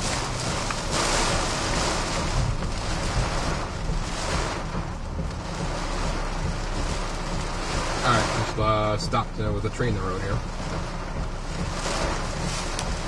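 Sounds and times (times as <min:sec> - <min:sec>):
rain striking vehicle: 0:00.0 - 0:13.0.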